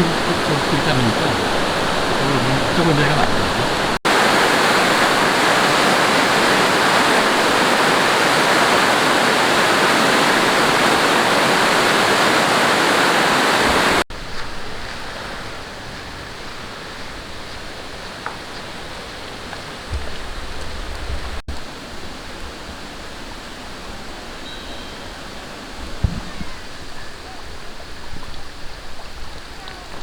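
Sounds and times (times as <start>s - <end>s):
mountain stream rushing over rocks: 0.0s - 24.5s
distant stream: 0.0s - 30.0s.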